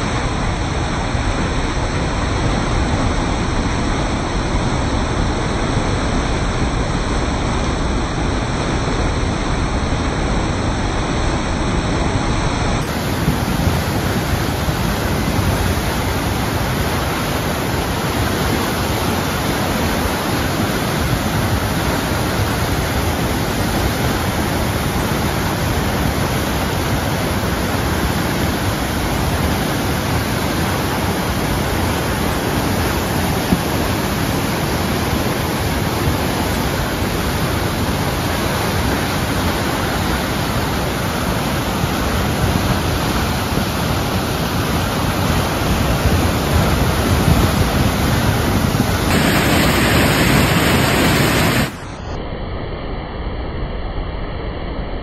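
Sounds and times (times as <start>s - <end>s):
floodwater rushing: 0.0s - 51.9s.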